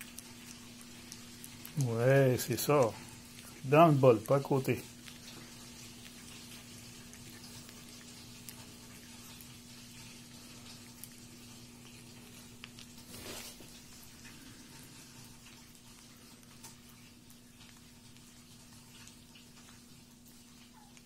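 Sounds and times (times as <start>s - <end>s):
puppy smacking and lapping food: 0.0s - 21.0s.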